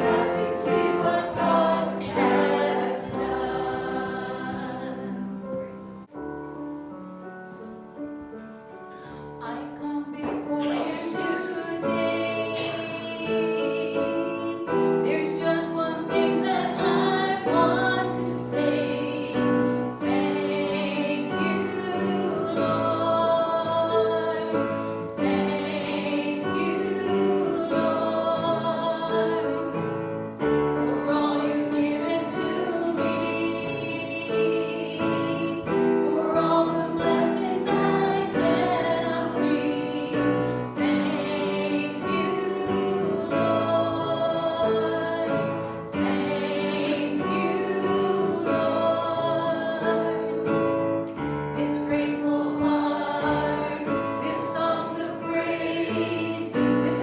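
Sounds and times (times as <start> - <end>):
choir singing a hymn: 0.0 - 6.1, 9.4 - 57.0.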